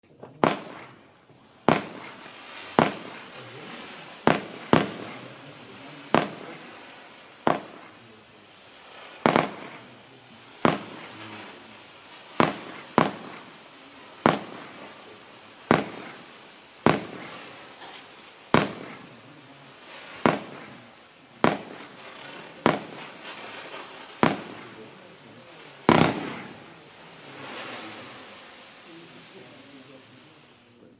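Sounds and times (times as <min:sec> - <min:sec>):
firework sharp reports: 0:00.0 - 0:30.9.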